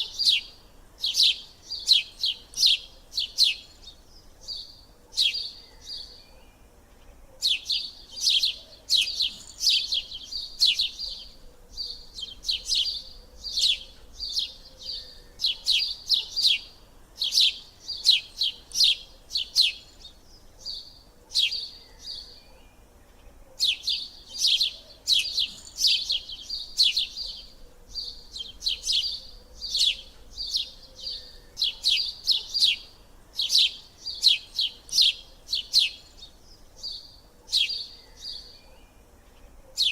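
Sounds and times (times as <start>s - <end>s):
birdsong chirps and trills: 0.0s - 39.9s.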